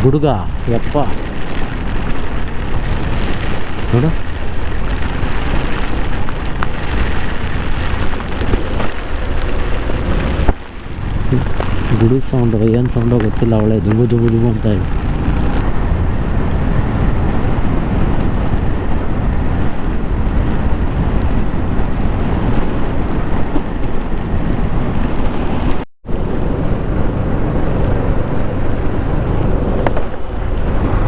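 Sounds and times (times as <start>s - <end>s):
engine and tyre noise: 0.0s - 31.0s
wind and heavy rain rushing: 0.0s - 31.0s.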